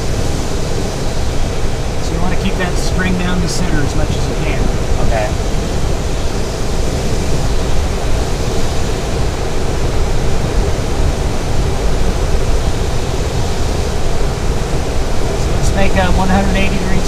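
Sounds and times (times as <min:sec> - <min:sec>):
air rushing around cockpit: 0:00.0 - 0:17.0.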